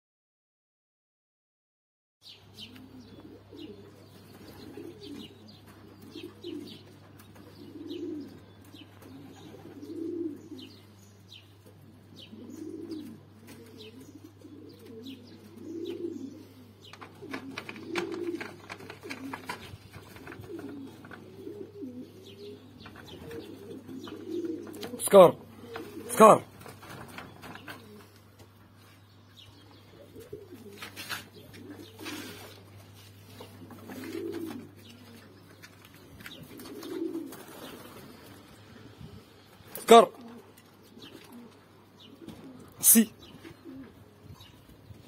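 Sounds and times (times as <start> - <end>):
pigeons cooing: 2.2 - 45.0
small birds chirping: 2.2 - 45.0.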